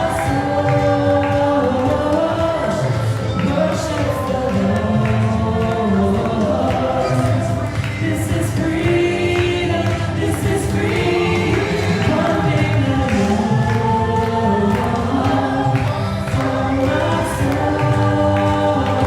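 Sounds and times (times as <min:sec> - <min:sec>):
group singing worship song: 0:00.0 - 0:19.0.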